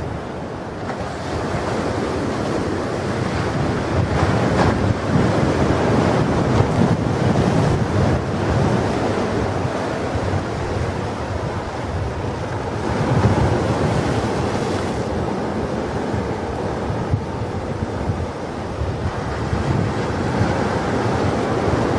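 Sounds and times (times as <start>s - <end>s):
ocean waves breaking: 0.0s - 21.9s.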